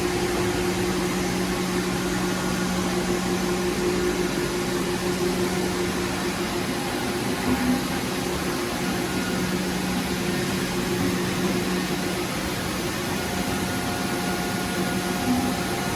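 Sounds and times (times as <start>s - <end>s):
machinery hum: 0.0s - 15.9s.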